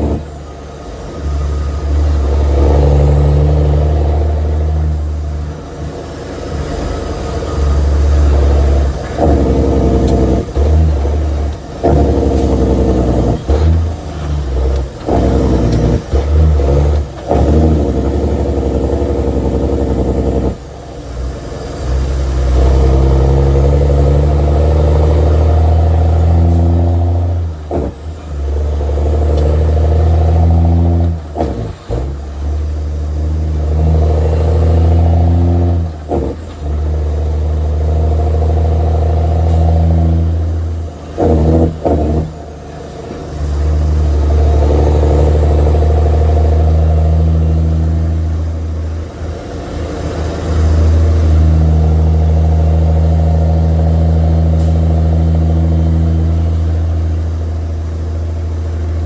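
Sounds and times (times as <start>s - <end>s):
truck diesel engine shifting gears: 0.0s - 59.0s.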